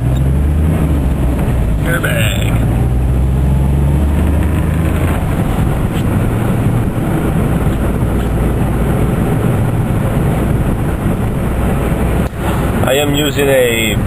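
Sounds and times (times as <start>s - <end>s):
car engine hum: 0.0s - 14.0s
tyre and road noise: 0.0s - 14.0s.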